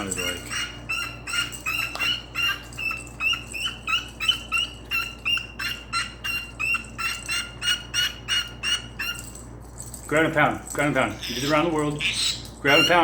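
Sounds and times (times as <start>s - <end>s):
small bird calling in sharp notes: 0.0s - 9.4s, 11.1s - 13.0s.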